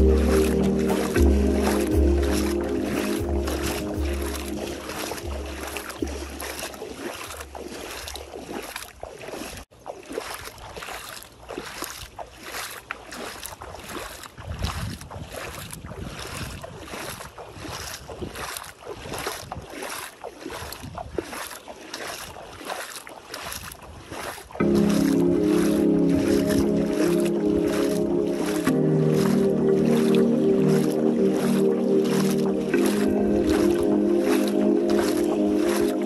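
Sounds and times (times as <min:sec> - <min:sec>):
feet splashing in shallow water: 0:00.0 - 0:36.0.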